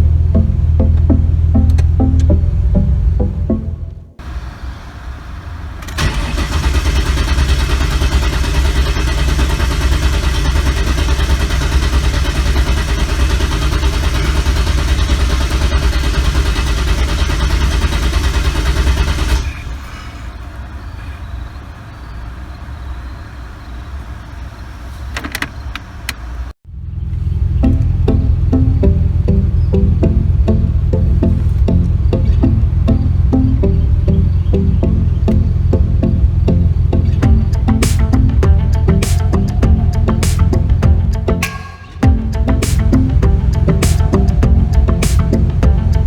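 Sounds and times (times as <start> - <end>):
car engine running: 0.0 - 46.0
engine misfiring: 0.0 - 46.0.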